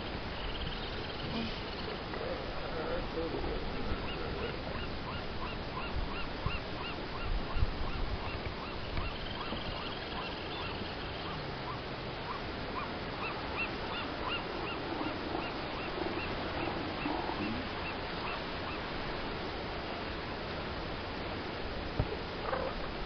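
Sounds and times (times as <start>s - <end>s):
elephant seals calling: 0.0s - 18.9s
background hiss: 0.0s - 23.0s.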